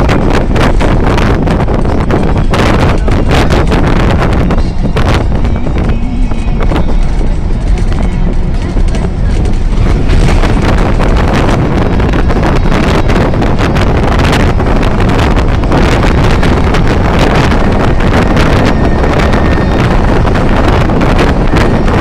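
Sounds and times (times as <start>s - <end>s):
car road noise in tunnel: 0.0s - 22.0s
wind rushing over microphone: 0.0s - 22.0s.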